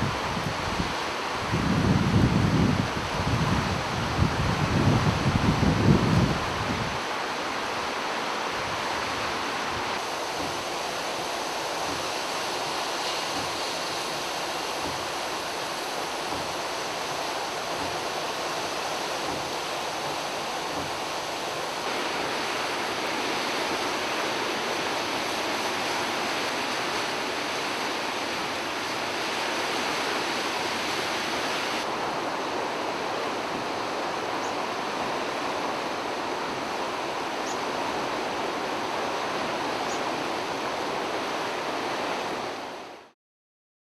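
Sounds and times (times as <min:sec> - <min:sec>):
river rushing: 0:00.0 - 0:43.2.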